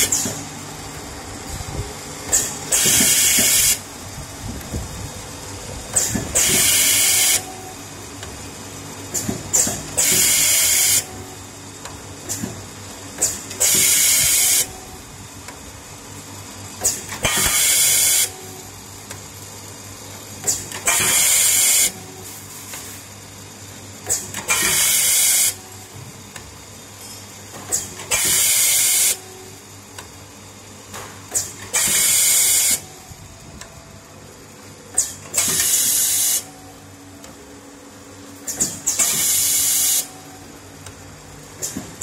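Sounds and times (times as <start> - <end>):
machine hum: 0.0 - 22.4, 23.0 - 42.0.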